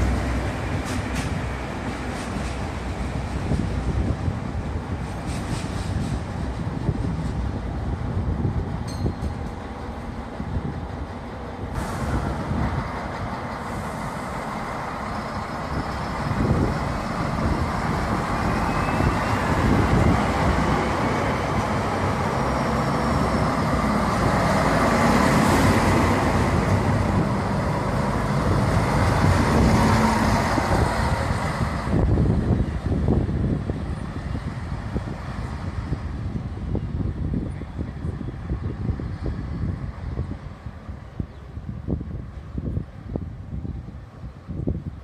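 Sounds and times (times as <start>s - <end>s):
diesel railcar engine: 0.0s - 45.0s.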